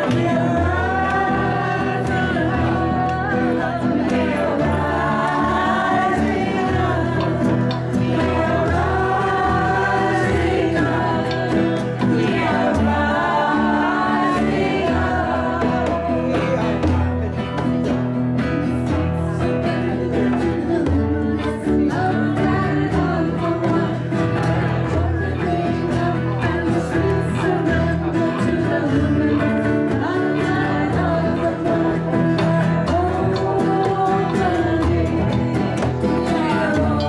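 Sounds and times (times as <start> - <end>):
woman singing into a microphone: 0.0 - 17.8, 18.6 - 37.0
acoustic guitar: 0.0 - 37.0.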